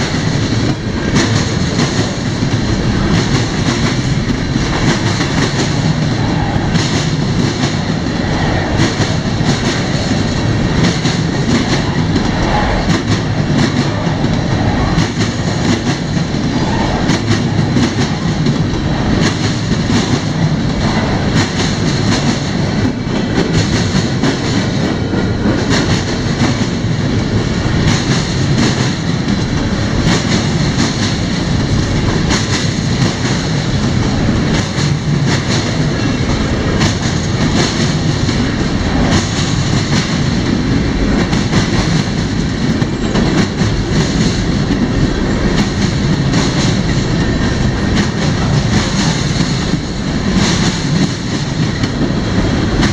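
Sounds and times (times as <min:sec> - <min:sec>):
train wheels rumbling on rail: 0:00.0 - 0:52.9
wheels clacking over rail joints: 0:00.0 - 0:52.9.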